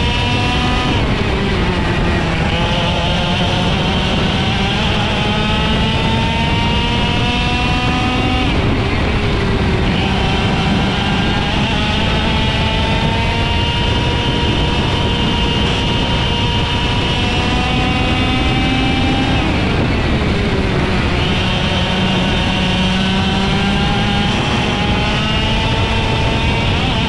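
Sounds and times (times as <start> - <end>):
kart engine revving: 0.0 - 27.0.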